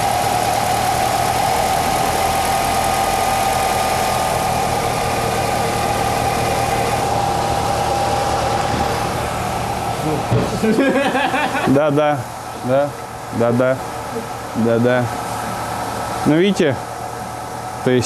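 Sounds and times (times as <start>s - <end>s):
car drivetrain drone: 0.0s - 18.0s
high whine: 0.0s - 18.0s.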